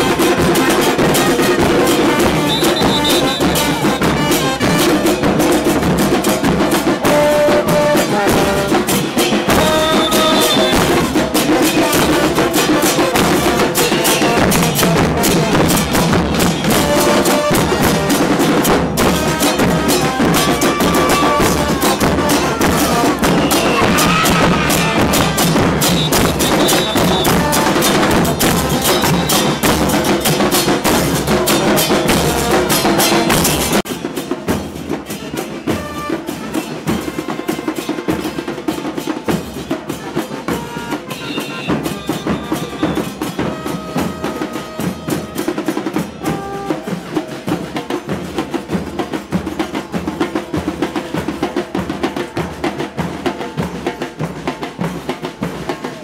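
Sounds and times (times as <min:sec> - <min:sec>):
bass drums and cymbals: 0:00.0 - 0:56.0.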